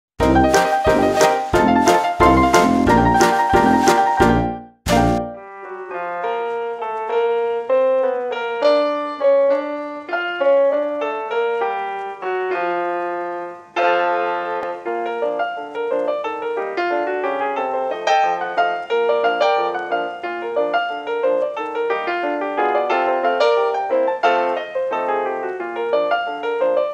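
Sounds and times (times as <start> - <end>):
piano music: 0.2 - 26.9.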